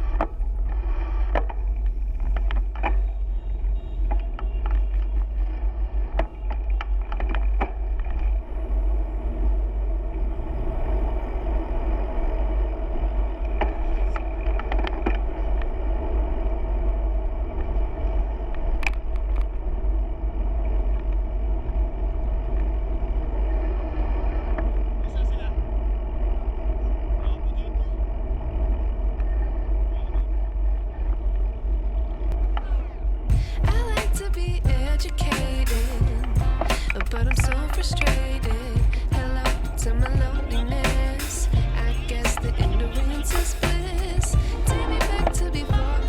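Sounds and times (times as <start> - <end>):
road rumble: 0.0 - 46.0
wind: 0.0 - 46.0.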